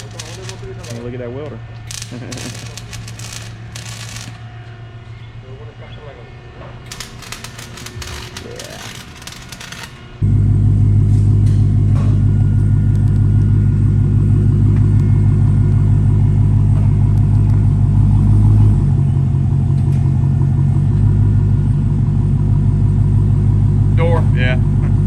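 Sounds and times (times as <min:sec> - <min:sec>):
car engine idling: 0:00.0 - 0:05.3, 0:10.0 - 0:25.0.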